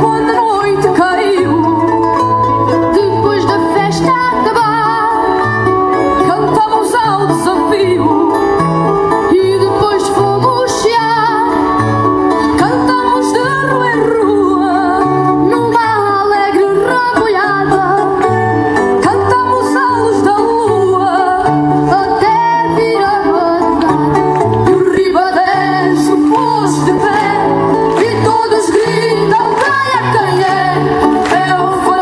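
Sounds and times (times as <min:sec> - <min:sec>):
guitar bass notes: 0:00.0 - 0:32.0
plucked guitar melody: 0:00.0 - 0:32.0.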